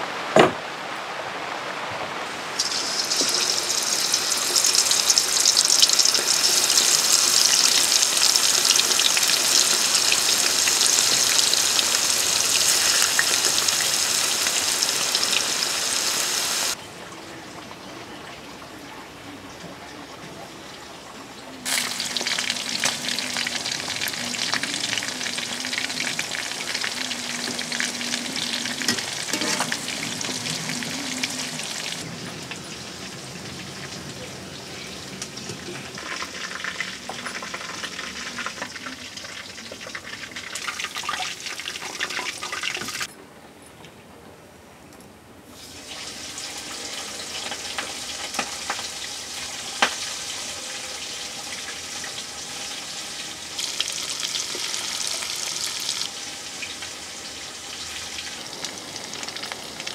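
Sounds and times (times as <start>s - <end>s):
chicken deep-frying in oil: 2.4s - 43.1s, 45.6s - 59.9s.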